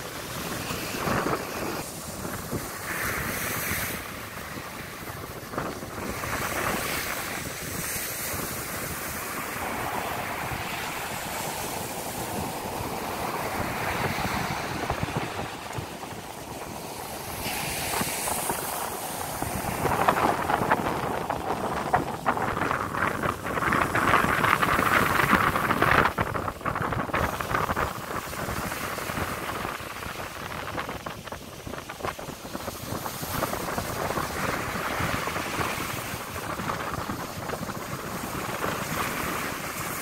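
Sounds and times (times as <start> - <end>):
waves washing onto sandy shore: 0.0 - 40.0
wind buffeting microphone: 0.0 - 40.0.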